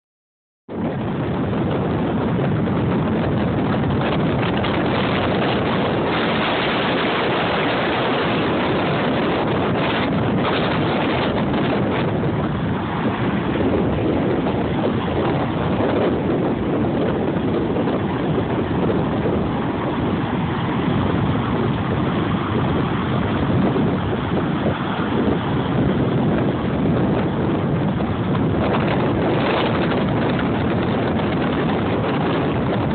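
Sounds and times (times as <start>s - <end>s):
heavy surf breaking: 0.7s - 32.9s
wind buffeting microphone: 0.7s - 32.9s.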